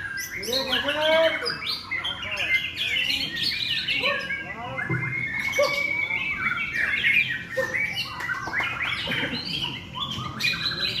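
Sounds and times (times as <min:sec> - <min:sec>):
bird singing whistles and chirps: 0:00.0 - 0:11.0.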